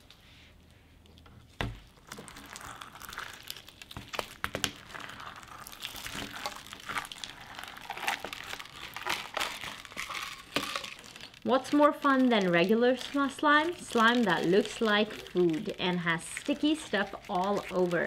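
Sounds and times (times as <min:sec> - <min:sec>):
slime crackling and popping: 0:01.6 - 0:18.0.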